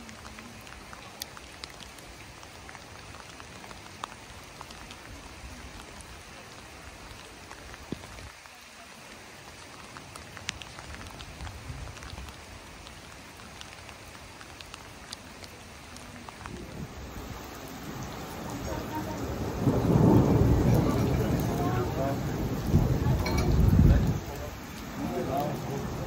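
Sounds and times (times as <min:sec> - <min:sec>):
rain on wet pavement: 0:00.0 - 0:26.0.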